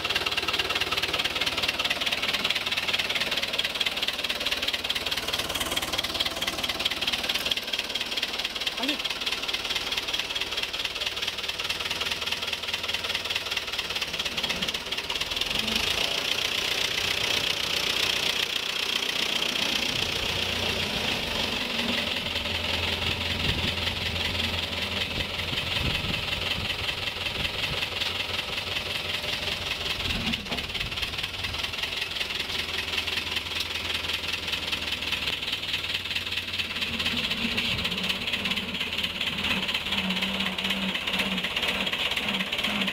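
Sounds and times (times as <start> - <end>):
tractor diesel engine knocking: 0.0 - 42.9.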